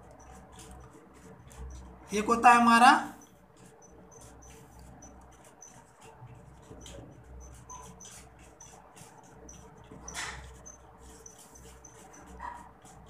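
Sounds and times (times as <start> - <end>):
high squeaks of writing: 0.0 - 13.0
writing scratching on a board: 0.0 - 13.0.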